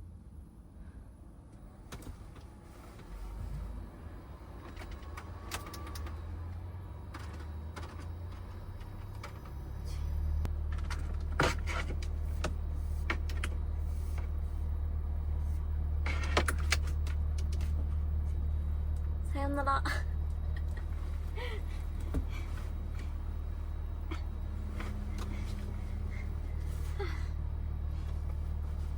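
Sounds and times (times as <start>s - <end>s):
van engine running: 0.0s - 28.9s.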